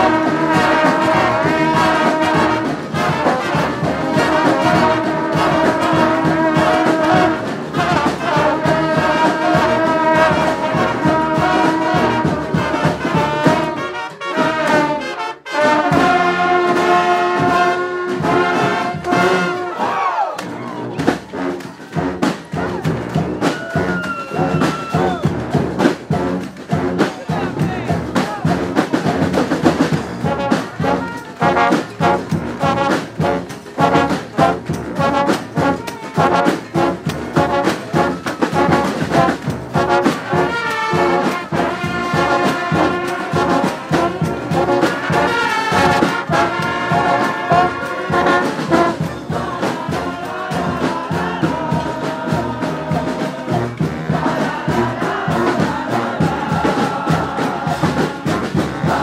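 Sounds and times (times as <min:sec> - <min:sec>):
drums: 0:00.0 - 0:15.0, 0:15.6 - 0:59.0
brass bands playing: 0:00.0 - 0:59.0.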